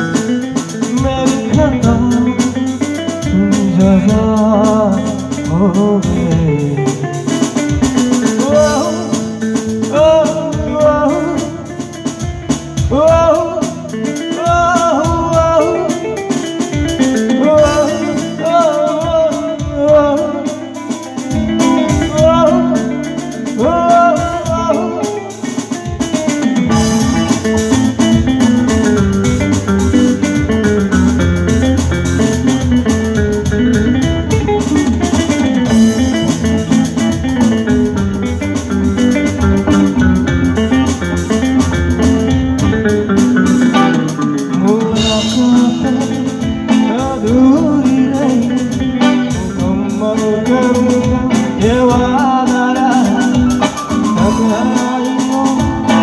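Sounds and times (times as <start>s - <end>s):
drums: 0.0s - 56.0s
electric guitar: 0.0s - 56.0s
keyboard: 0.0s - 56.0s.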